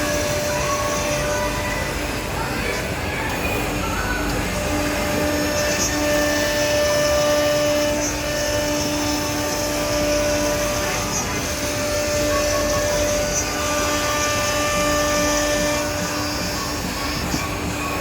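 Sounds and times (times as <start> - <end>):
held machine whine: 0.0 - 18.0
router machine rushing noise: 0.0 - 18.0.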